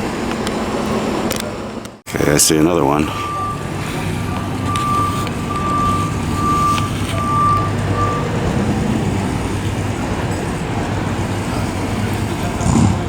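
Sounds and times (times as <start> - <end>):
street traffic rumbling: 0.0 - 13.0
truck reversing alarm beeping: 2.1 - 13.0.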